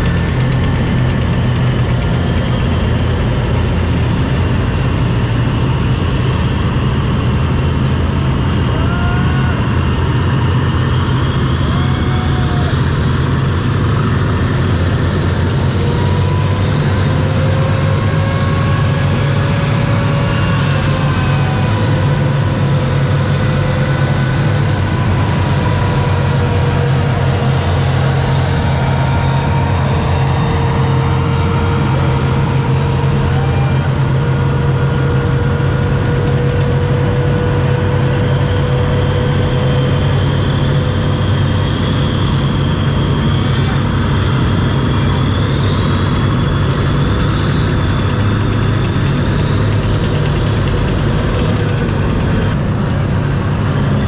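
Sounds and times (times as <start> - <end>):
tank engines rumbling: 0.0 - 54.0.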